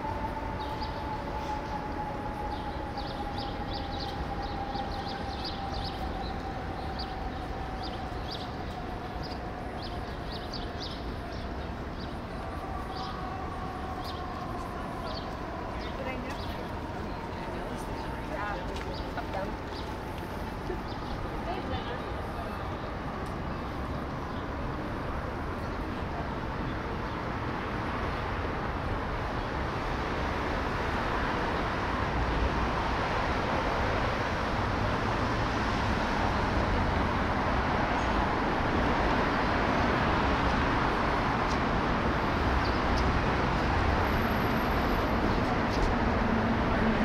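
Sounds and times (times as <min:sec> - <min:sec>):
traffic noise: 0:00.0 - 0:47.0.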